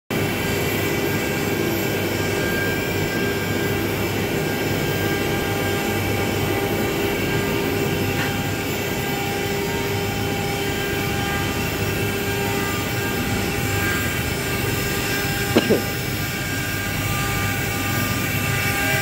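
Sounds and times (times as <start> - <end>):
cnc router spindle whining: 0.1 - 19.0.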